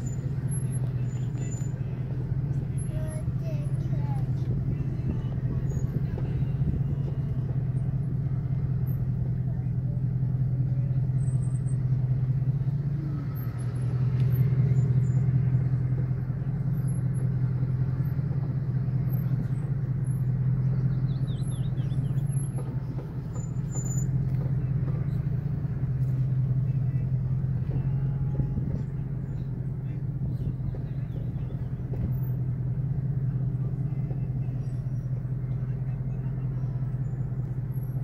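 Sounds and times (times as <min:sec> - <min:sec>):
car engine and road drone: 0:00.0 - 0:38.0.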